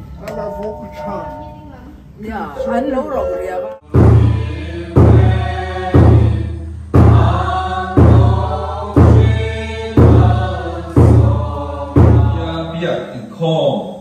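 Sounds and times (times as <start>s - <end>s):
deep percussion strokes ringing: 0.0s - 12.7s.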